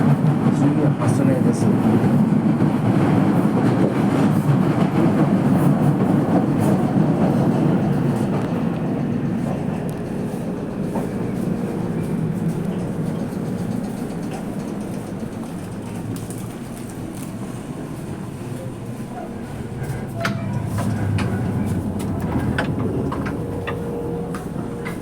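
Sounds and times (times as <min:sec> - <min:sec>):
subway car rumble: 0:00.0 - 0:25.0.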